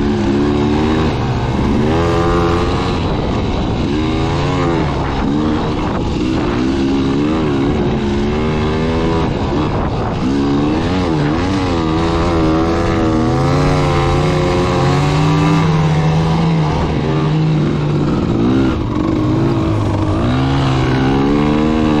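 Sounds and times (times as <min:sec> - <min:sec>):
dirt bike engine revving: 0:00.0 - 0:22.0
wind noise on microphone: 0:00.0 - 0:22.0.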